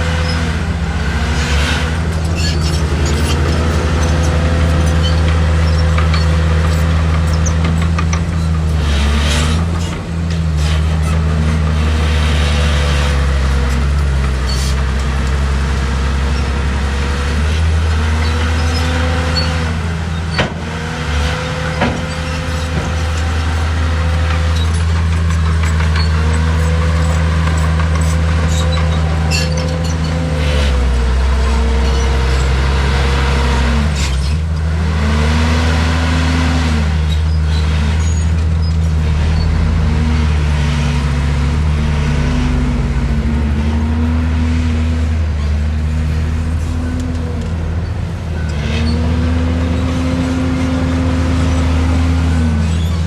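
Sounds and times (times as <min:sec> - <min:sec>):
heavy diesel engine under load: 0:00.0 - 0:53.0.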